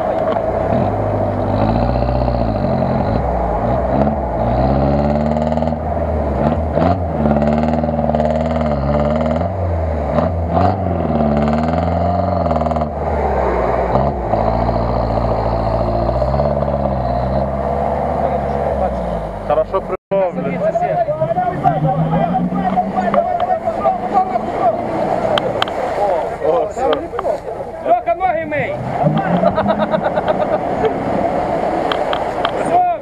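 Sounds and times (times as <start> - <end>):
engine revving: 0.0 - 27.3, 28.4 - 33.0.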